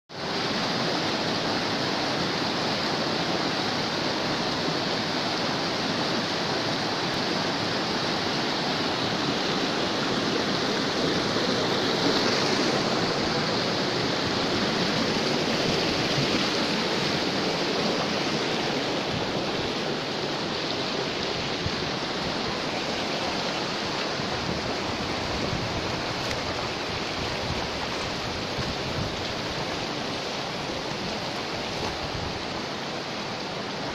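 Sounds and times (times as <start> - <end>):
stream rushing over boulders: 0.1 - 33.9.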